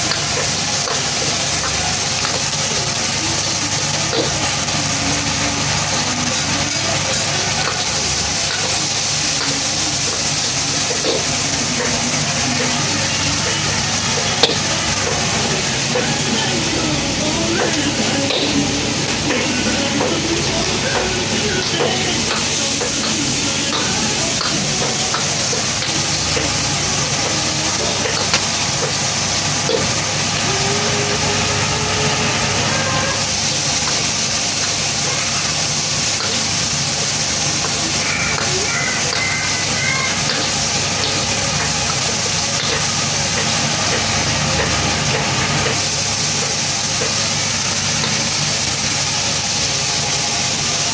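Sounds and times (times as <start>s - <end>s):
food sizzling in a wok: 0.0s - 50.9s
gas burner running: 0.0s - 50.9s.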